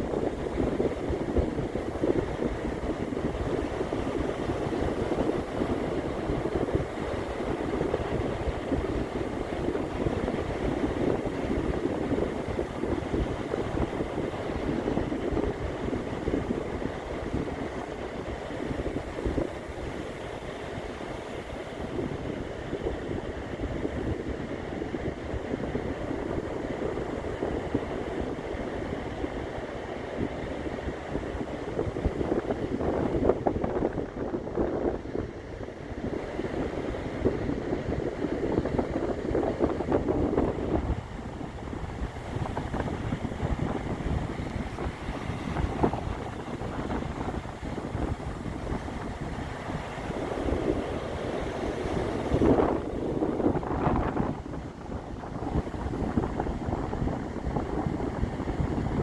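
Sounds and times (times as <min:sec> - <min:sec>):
ocean waves washing on beach: 0:00.0 - 0:59.0
wind buffeting microphone: 0:00.0 - 0:59.0.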